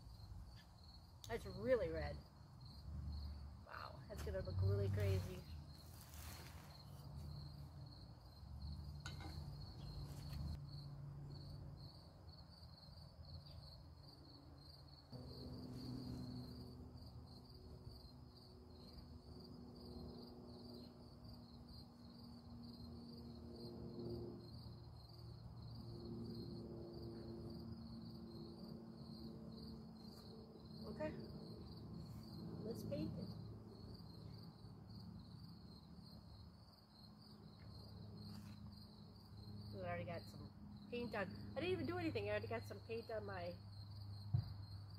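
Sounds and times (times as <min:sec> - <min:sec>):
insect chirping trill: 0:00.0 - 0:44.9.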